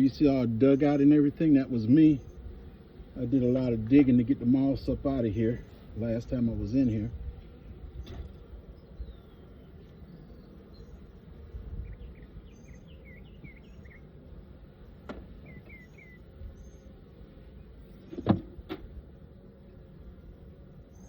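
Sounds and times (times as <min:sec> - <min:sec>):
birdsong chirping: 0:00.0 - 0:21.0
low steady hum: 0:00.0 - 0:21.0.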